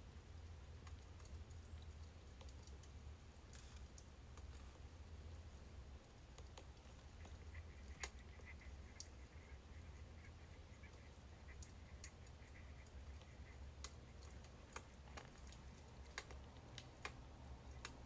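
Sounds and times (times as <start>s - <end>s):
low steady hum: 0.0s - 18.0s
logs crackling in fire: 0.8s - 18.0s.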